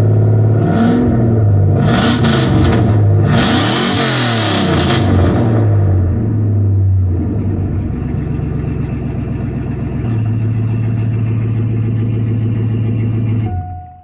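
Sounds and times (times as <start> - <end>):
car engine idling: 0.0 - 13.8.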